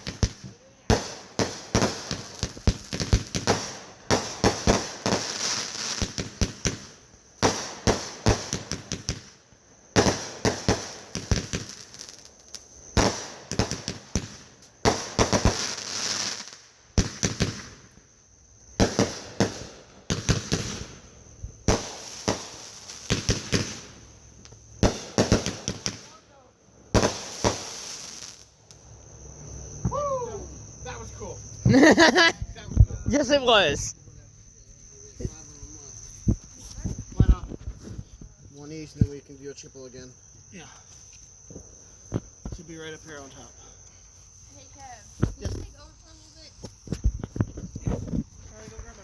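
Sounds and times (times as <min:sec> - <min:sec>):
fireworks bangs and crackling pops: 0:00.0 - 0:29.1, 0:29.7 - 0:30.3, 0:35.2 - 0:39.7, 0:40.5 - 0:43.5, 0:44.8 - 0:49.0.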